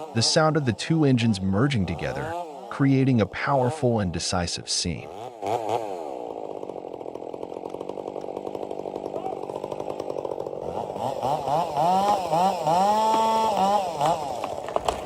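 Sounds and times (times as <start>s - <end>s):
chainsaws cutting tree trunk: 0.0s - 4.3s, 5.0s - 15.0s.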